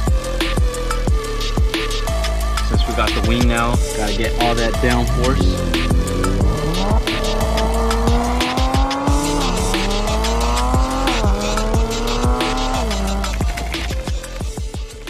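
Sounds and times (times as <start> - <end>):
music with steady beat: 0.0 - 15.0
car engine accelerating: 2.0 - 15.0.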